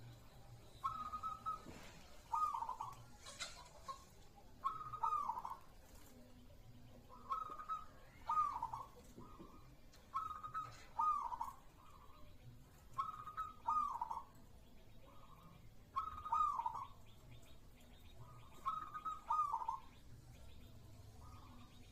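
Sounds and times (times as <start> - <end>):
dove cooing: 0.0 - 21.9.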